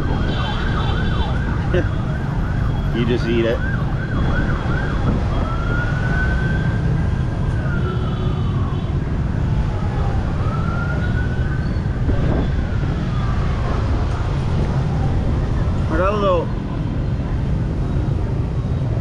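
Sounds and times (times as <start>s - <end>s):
emergency siren wailing: 0.0s - 19.0s
street traffic rumble: 0.0s - 19.0s.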